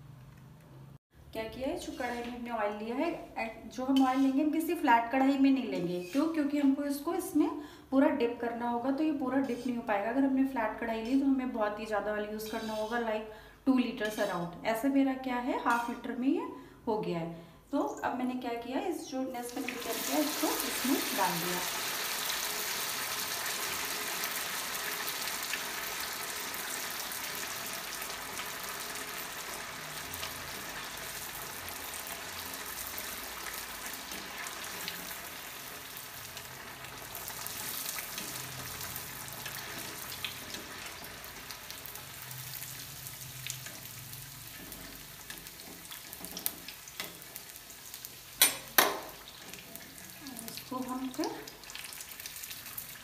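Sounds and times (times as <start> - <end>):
food sizzling in hot oil: 1.5 - 7.4, 8.9 - 13.2, 13.8 - 14.6, 15.7 - 16.1, 19.4 - 53.0.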